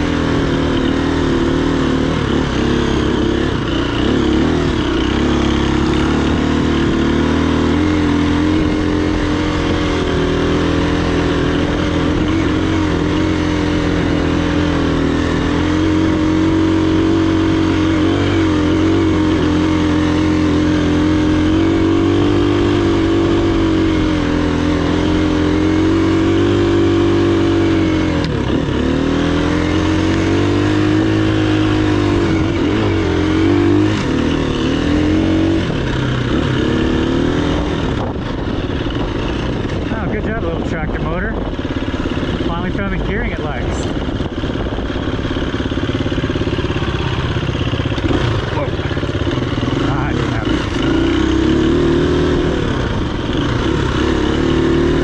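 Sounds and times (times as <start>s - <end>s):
dirt bike engine under throttle: 0.0s - 55.0s.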